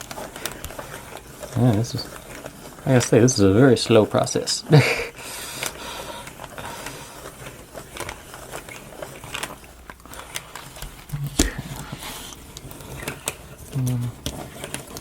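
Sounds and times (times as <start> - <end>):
wooden parts clicking and scraping: 0.0 - 4.4, 5.5 - 15.0.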